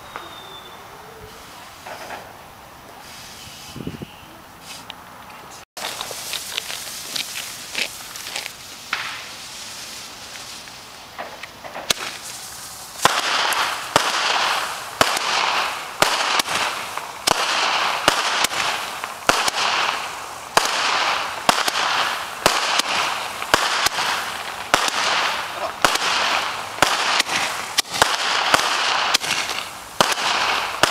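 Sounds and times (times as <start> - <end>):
fireworks bangs and crackling: 0.0 - 4.8, 5.8 - 30.9.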